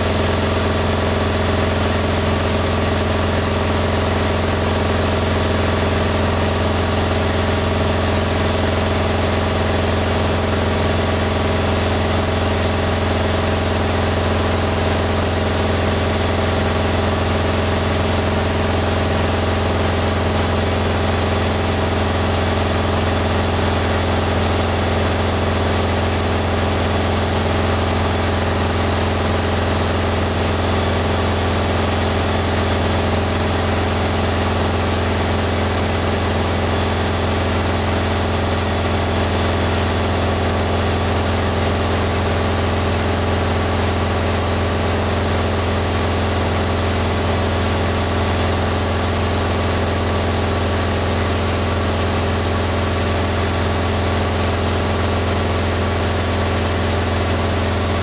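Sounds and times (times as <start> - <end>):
washing machine spin cycle: 0.0 - 58.0.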